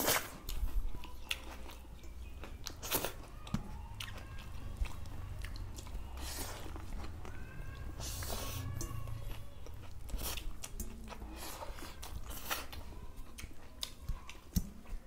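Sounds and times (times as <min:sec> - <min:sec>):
chewing with wet smacks: 0:00.0 - 0:15.0.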